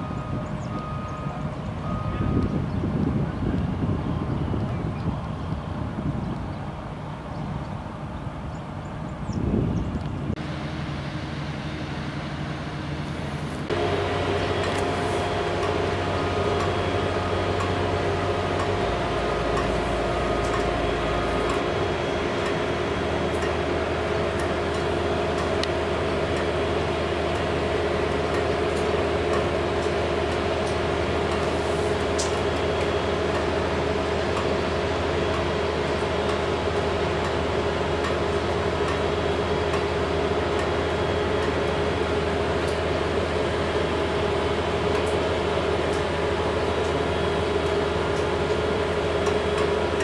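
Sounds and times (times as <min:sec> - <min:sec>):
machinery humming: 0:00.0 - 0:50.0.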